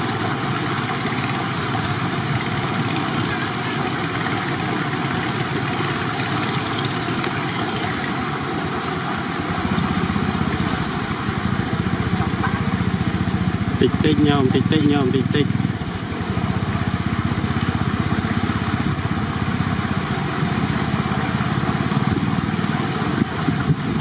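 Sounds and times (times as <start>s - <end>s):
motor engine running: 0.0s - 24.0s.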